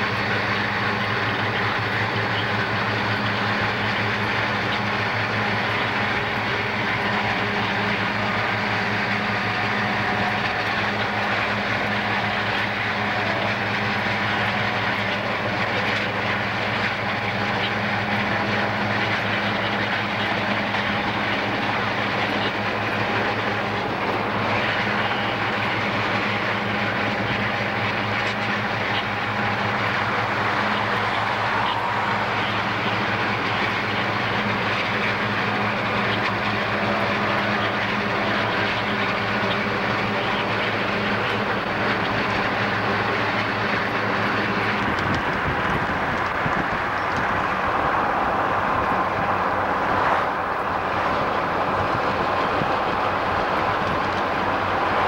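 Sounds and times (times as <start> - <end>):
low engine hum: 0.0 - 55.0
road and wind noise in car: 0.0 - 55.0.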